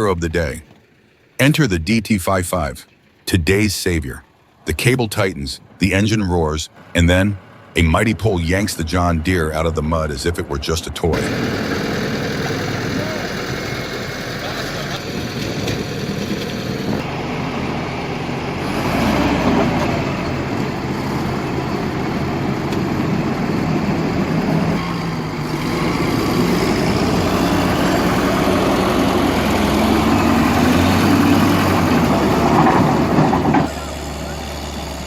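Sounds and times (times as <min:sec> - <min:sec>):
heavy vehicle engines under load: 0:00.0 - 0:35.0.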